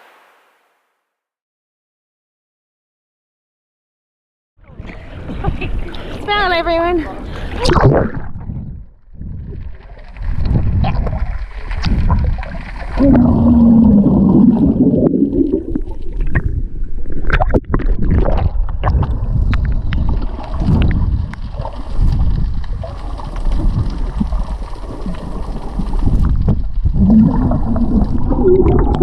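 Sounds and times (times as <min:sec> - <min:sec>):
seawater sloshing and bubbling: 0:04.7 - 0:29.0
water gurgle: 0:04.7 - 0:29.0.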